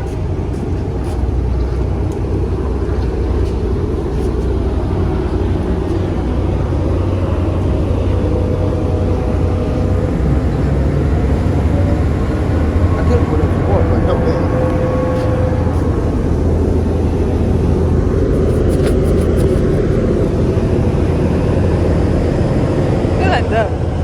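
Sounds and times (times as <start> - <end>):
ferry engines rumbling: 0.0 - 24.0.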